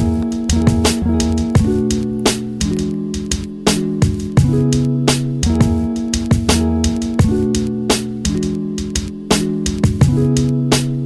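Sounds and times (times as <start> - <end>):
plucked guitar: 0.0 - 10.8
drum hits: 0.0 - 11.0.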